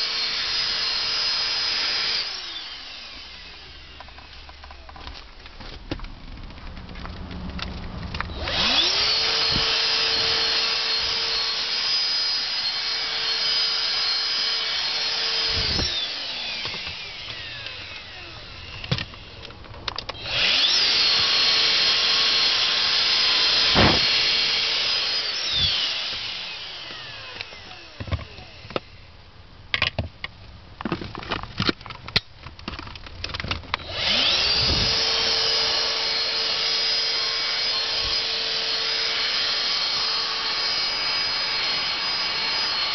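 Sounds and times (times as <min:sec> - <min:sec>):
handheld vacuum motor whining: 0:00.0 - 0:06.0, 0:06.6 - 0:29.1, 0:32.8 - 0:42.9.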